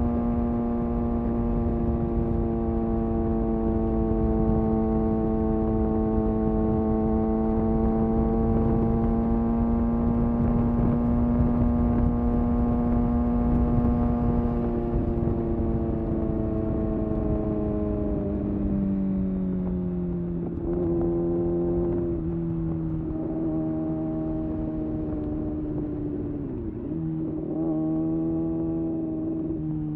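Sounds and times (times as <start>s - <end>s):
motorcycle engine running: 0.0s - 29.9s
wind and road rush: 0.0s - 29.9s.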